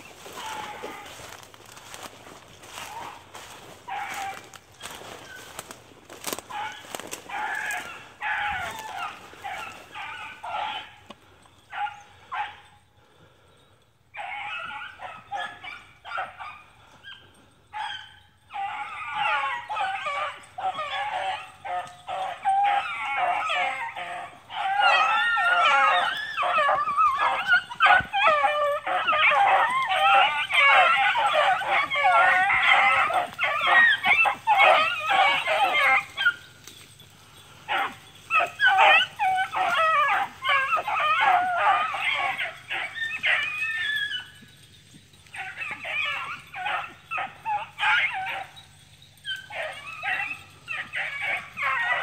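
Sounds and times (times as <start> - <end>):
hounds baying: 0.0 - 52.0.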